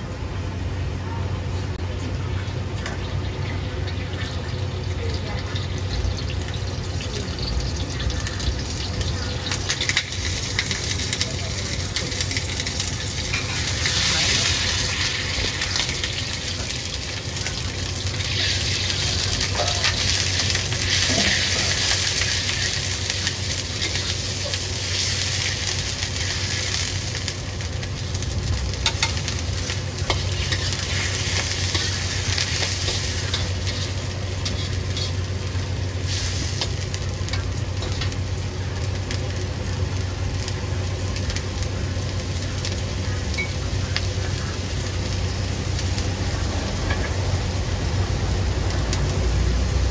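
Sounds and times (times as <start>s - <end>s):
food sizzling in a wok: 0.0s - 49.9s.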